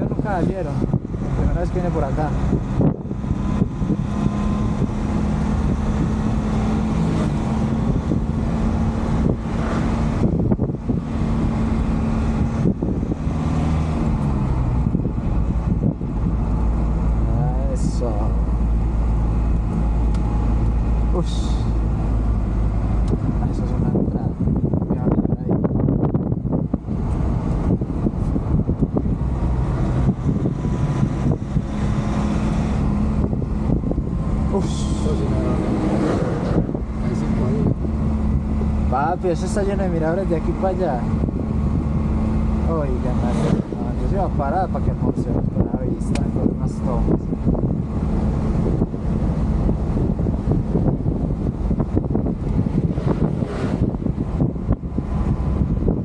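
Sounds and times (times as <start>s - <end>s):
road and wind noise: 0.0s - 56.0s
truck diesel engine running: 0.0s - 56.0s.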